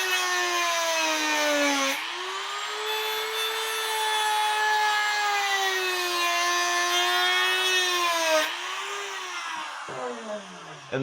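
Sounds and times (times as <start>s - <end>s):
power grinder whining: 0.0s - 11.0s.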